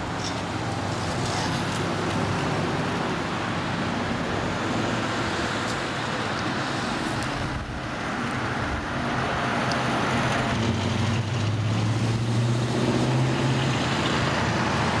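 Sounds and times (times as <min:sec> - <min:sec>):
car engine drone: 0:00.0 - 0:15.0
road traffic noise: 0:00.0 - 0:15.0.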